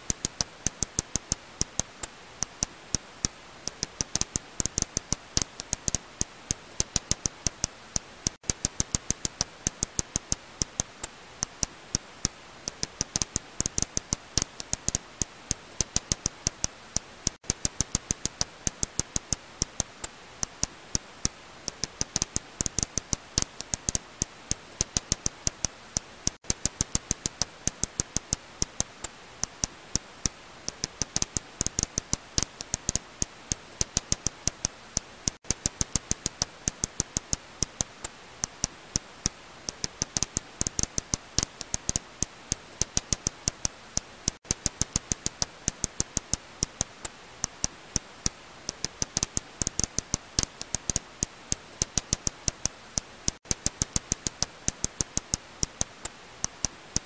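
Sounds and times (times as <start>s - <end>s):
bat echolocation clicks: 0.0s - 57.0s.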